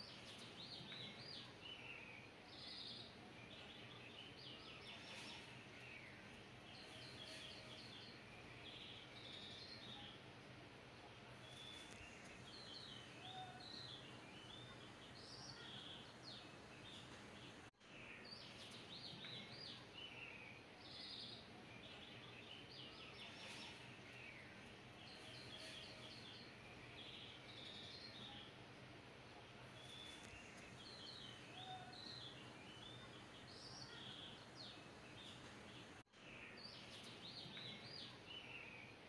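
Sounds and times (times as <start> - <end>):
faint birdsong chirps and twitters: 0.0 - 39.0
low steady hiss: 0.0 - 39.0.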